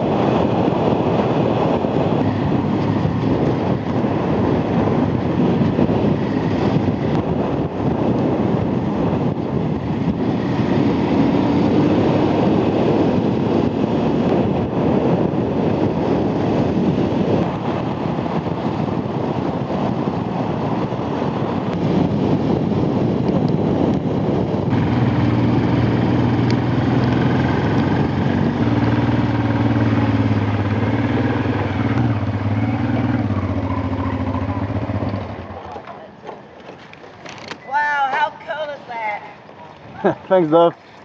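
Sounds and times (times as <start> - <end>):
motorcycle engine: 0.0 - 36.0
wind rush on microphone: 0.0 - 41.0.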